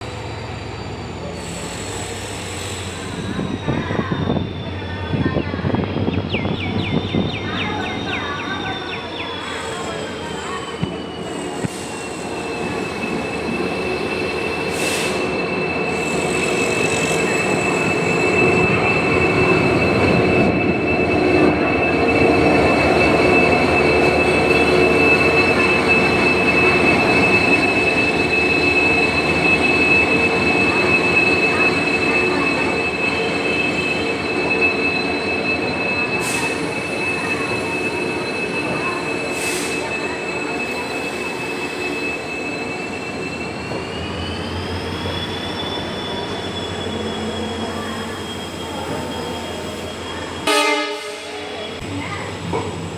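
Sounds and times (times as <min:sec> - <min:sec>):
high-pitched wheel squeal: 0:00.0 - 0:52.9
train rumbling on rails: 0:00.0 - 0:52.9.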